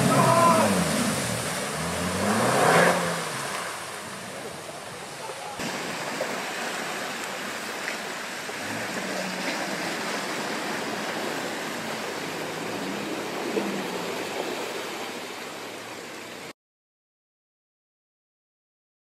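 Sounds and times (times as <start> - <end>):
faint low engine: 0.0 - 16.5
tyres splashing through muddy water: 0.0 - 16.5.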